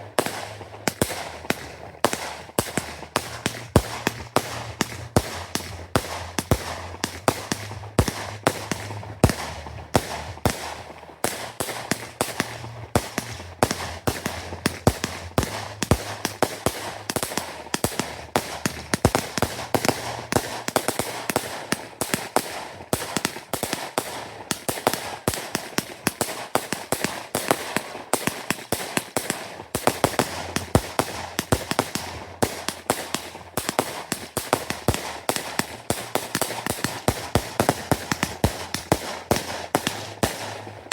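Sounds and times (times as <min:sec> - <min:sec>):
fireworks banging and crackling: 0:00.0 - 0:40.9.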